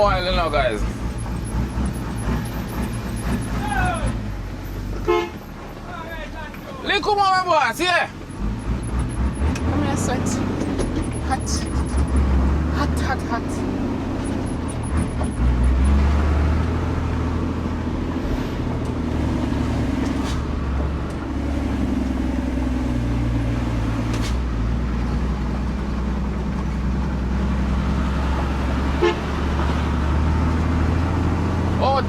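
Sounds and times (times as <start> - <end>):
diesel truck engine running: 0.0 - 32.0
road noise: 0.0 - 32.0.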